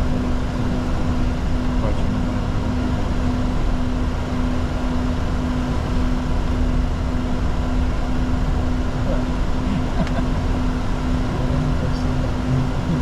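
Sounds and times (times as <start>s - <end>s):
constant low hum: 0.0s - 13.0s
jet engines and airflow rumbling: 0.0s - 13.0s.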